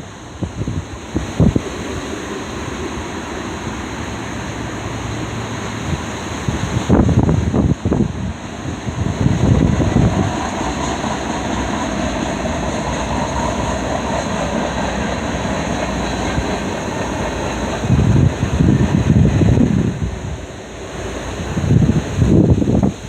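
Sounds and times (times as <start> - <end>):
freight train rumbling past: 0.0 - 23.0
wind buffeting microphone: 0.0 - 23.0.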